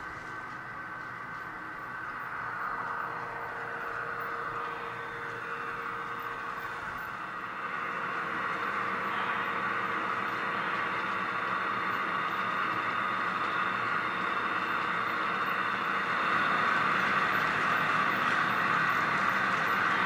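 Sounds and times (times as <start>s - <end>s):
model trains whirring on track: 0.0s - 20.0s.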